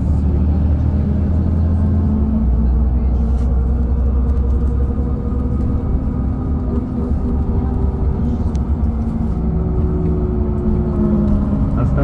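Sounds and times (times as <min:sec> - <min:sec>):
bus engine hum: 0:00.0 - 0:12.0
low road rumble: 0:00.0 - 0:12.0.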